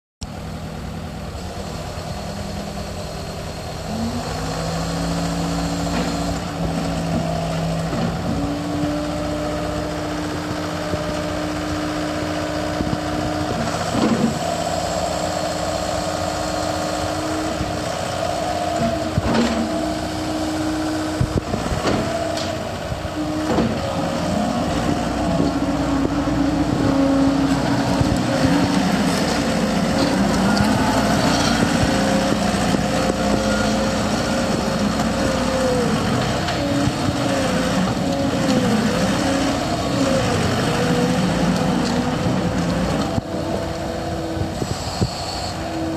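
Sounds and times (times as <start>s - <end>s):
diesel engine revving: 0.2s - 45.9s
hydraulic whine: 0.4s - 45.9s.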